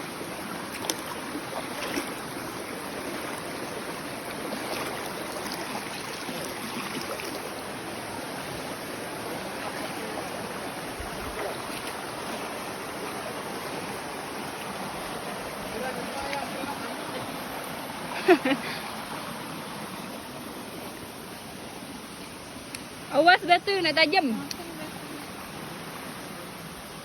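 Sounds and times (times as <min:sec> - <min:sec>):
stream flowing over rocks: 0:00.0 - 0:27.0.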